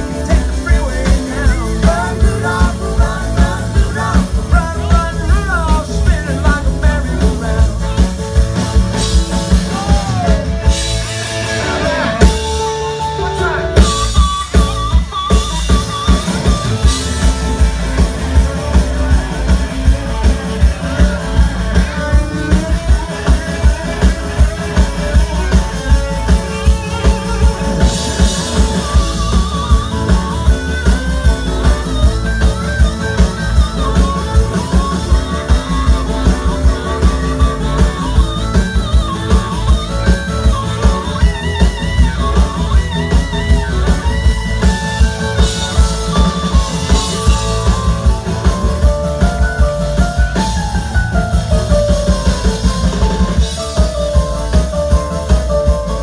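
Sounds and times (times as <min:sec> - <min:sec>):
drum kit beat: 0:00.0 - 0:56.0
live rock band playing: 0:00.0 - 0:56.0.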